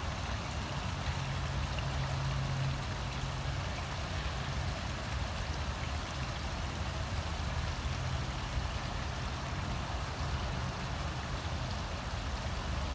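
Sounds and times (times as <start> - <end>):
water splashing into pond: 0.0 - 12.9.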